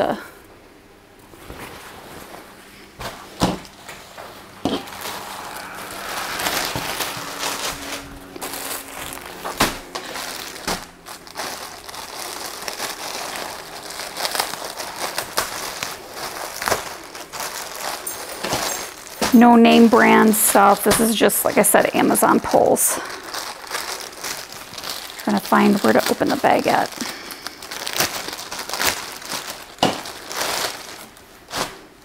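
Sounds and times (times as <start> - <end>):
plastic bags crinkling: 1.3 - 32.0.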